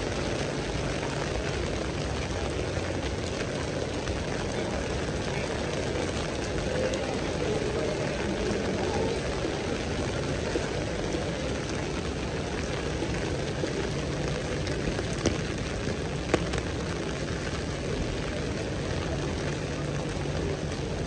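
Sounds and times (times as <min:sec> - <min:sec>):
heavy rain on street: 0:00.0 - 0:21.0.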